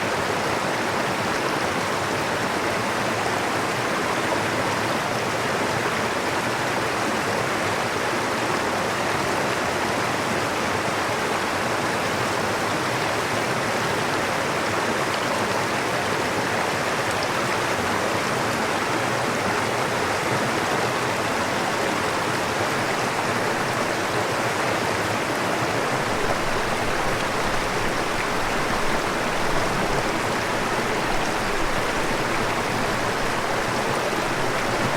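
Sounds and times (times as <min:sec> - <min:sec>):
stream water flowing: 0:00.0 - 0:34.9.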